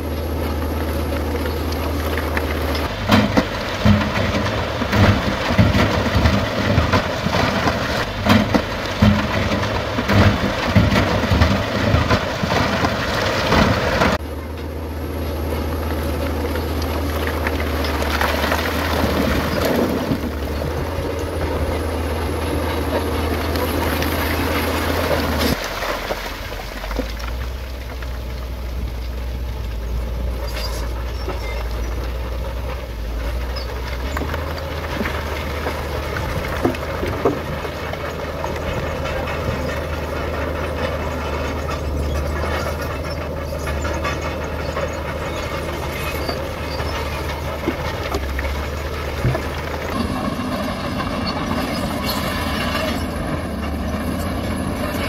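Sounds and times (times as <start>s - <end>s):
diesel machinery droning: 0.0s - 55.0s
rocks clattering: 0.3s - 14.2s, 15.8s - 55.0s.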